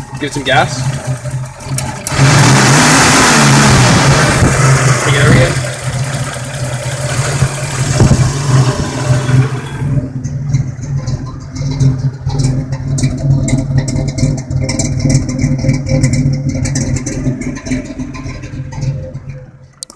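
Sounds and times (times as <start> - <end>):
light irregular ticking: 0.0 - 2.2, 4.5 - 19.9
car engine idling roughly: 0.0 - 19.8.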